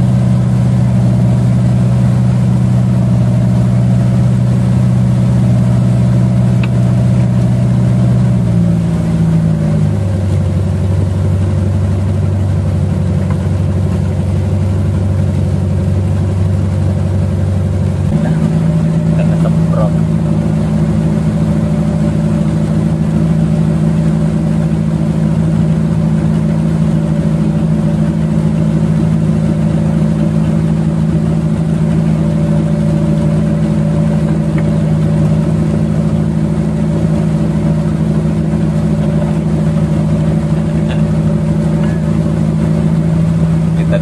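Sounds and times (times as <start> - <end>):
boat engines droning: 0.0 - 44.0
churned water rushing: 0.0 - 44.0.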